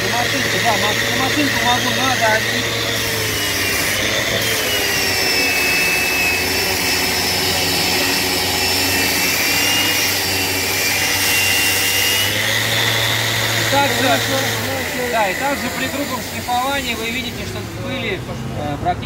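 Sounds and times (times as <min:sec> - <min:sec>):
orbital sander sanding wood: 0:00.0 - 0:18.2.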